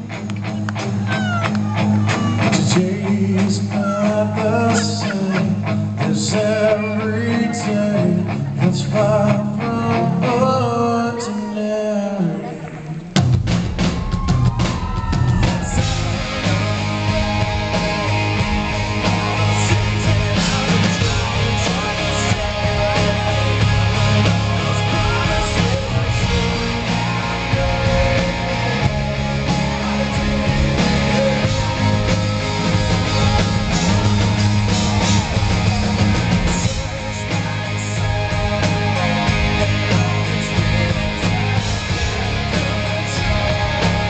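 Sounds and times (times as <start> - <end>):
rock band playing: 0.0 - 44.0.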